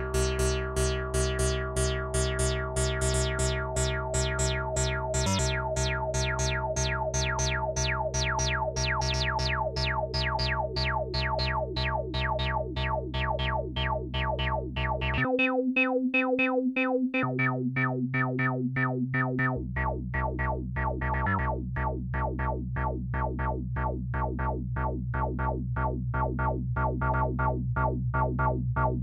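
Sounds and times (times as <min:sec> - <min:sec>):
synthesizer bass sequence: 0:00.0 - 0:29.0.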